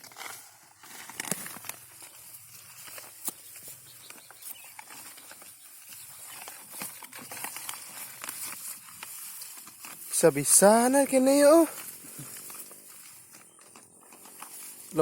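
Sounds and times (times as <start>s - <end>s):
rustling and crackling: 0.0s - 15.0s.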